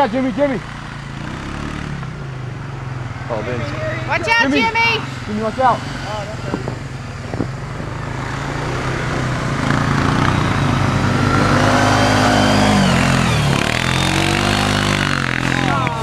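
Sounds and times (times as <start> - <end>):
all-terrain vehicle engine running: 0.0 - 16.0.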